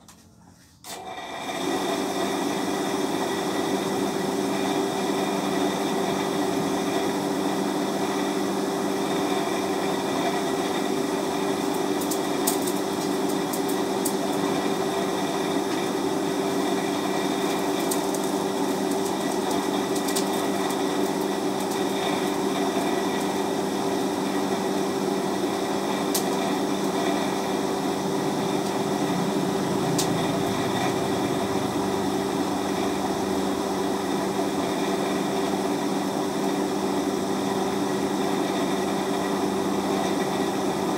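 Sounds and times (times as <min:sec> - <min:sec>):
machine motor humming: 0:00.9 - 0:40.9.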